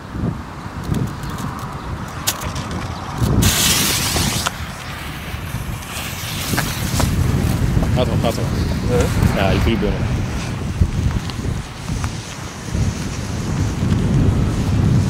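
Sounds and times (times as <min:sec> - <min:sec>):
wind rumble on microphone: 0:00.0 - 0:15.0
firecracker fuse hissing: 0:02.2 - 0:15.0.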